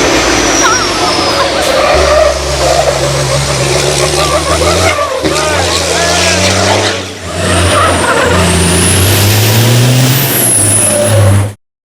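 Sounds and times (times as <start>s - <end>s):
racing car engine running hard: 0.0s - 11.6s.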